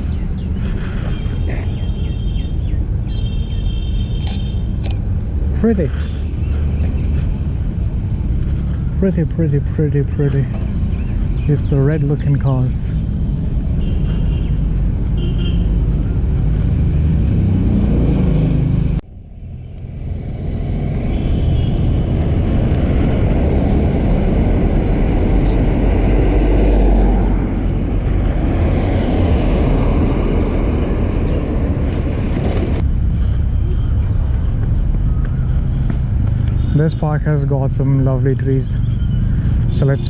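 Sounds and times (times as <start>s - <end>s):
road traffic rumbling: 0.0s - 40.0s
vehicle passing: 0.0s - 40.0s.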